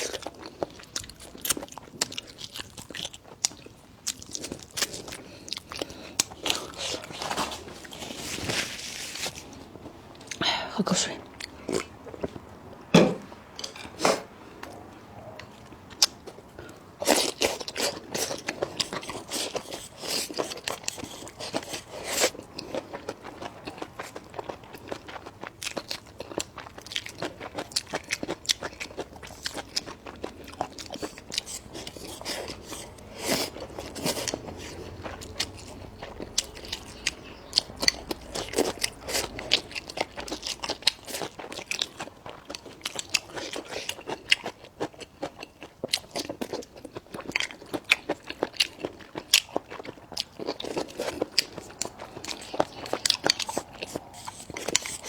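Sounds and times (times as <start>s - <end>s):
person chewing crunchy food: 0.0s - 10.4s, 11.2s - 55.0s.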